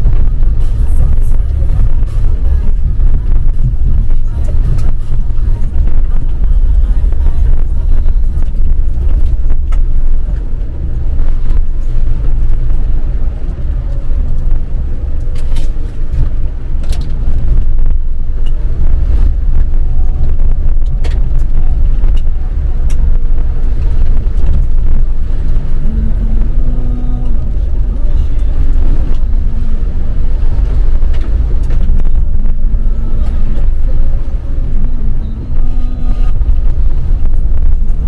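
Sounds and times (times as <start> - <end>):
engine and tyres rumbling: 0.0 - 38.0.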